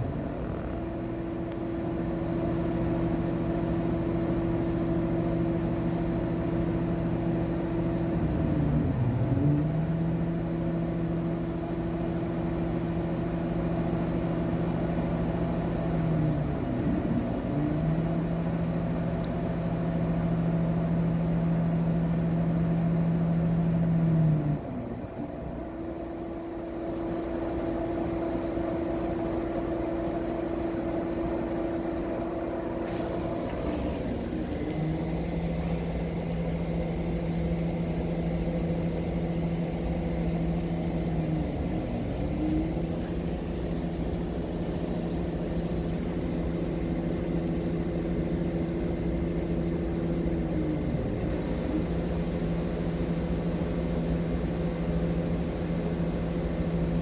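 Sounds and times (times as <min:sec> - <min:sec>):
laser engraver motors whining: 0:00.0 - 0:57.0.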